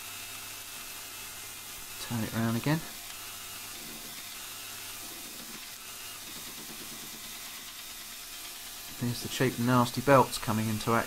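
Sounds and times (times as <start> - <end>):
motor low hum: 0.0 - 9.8
belt grinder grinding steel: 0.0 - 11.0.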